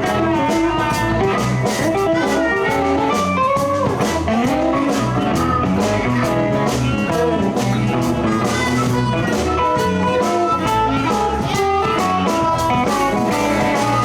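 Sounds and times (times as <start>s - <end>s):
blues band playing: 0.0s - 14.0s
electric guitar: 0.0s - 14.0s.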